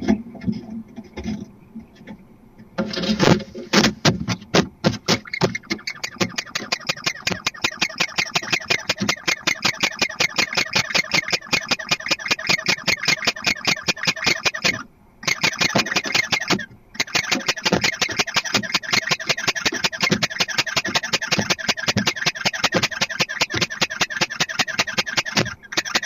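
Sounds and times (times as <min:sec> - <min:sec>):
owl calling: 0:04.9 - 0:26.0.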